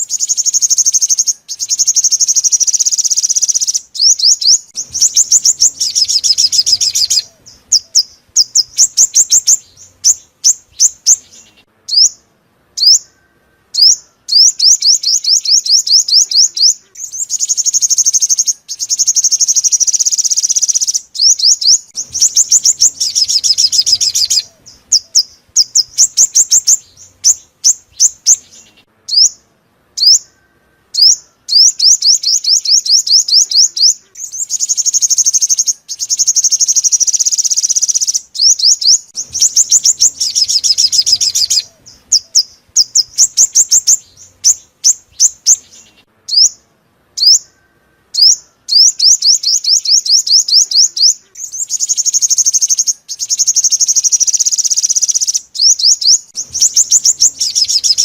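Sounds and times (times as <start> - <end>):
bird trilling chirps: 0.0 - 58.0.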